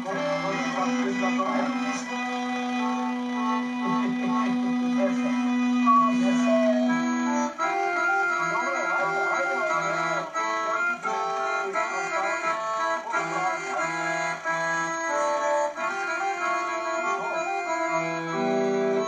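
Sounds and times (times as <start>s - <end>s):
accordion playing a tune: 0.0s - 19.0s.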